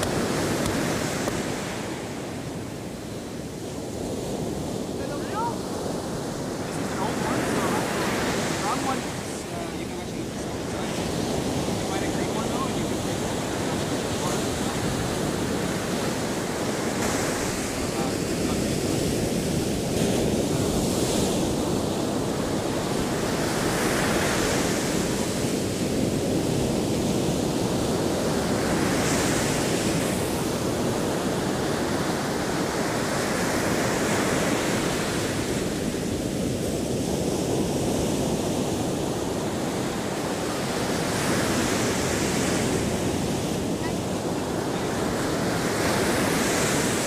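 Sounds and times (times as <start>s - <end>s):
ocean surf washing onto beach: 0.0s - 47.0s.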